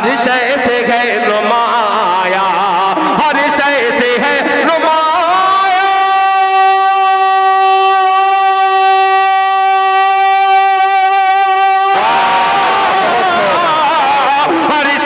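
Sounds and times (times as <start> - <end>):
man singing through microphone: 0.0 - 15.0.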